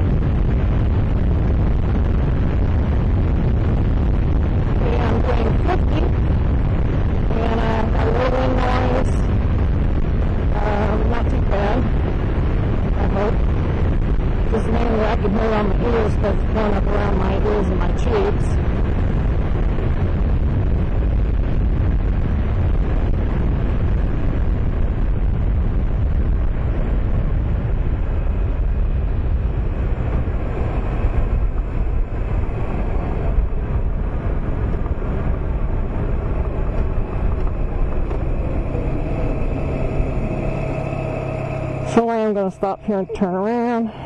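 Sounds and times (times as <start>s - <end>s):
wind noise on microphone: 0.0s - 44.0s.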